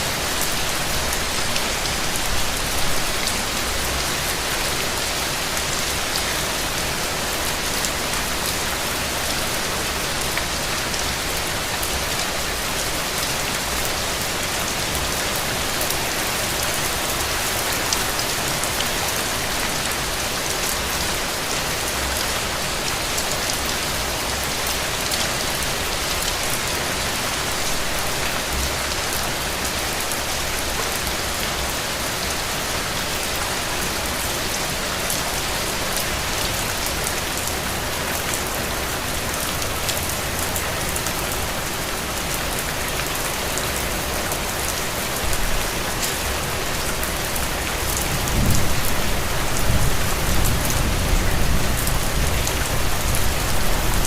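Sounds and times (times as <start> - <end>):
rain drops pattering: 0.0 - 54.0.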